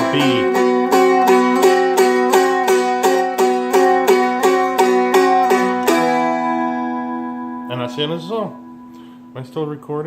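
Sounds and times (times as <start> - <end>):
stringed instrument strummed: 0.0 - 10.0.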